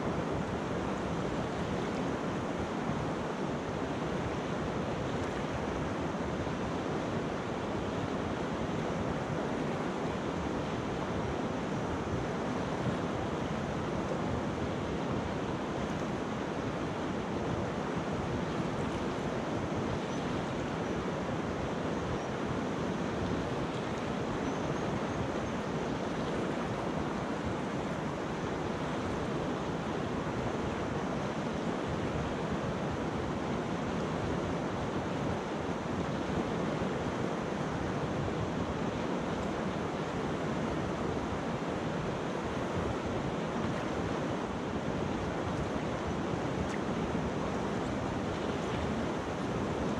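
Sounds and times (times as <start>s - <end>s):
river water rushing over rocks: 0.0s - 49.9s.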